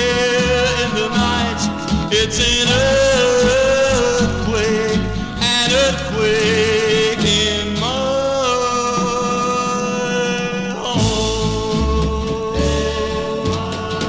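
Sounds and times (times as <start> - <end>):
doo-wop record playing: 0.0 - 14.0.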